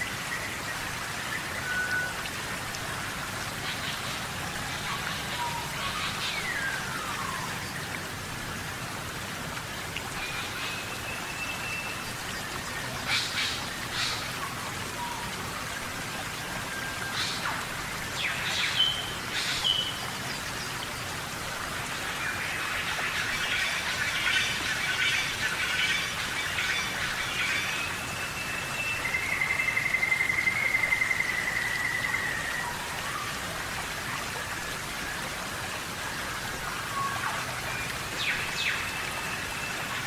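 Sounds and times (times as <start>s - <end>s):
rain falling on foliage: 0.0s - 40.0s.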